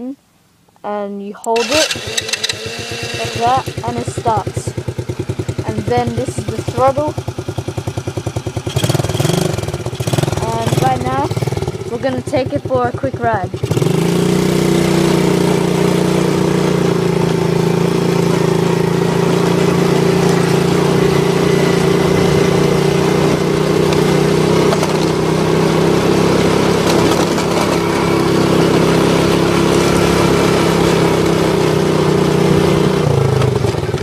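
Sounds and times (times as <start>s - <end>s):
quad bike engine running: 1.4s - 34.0s.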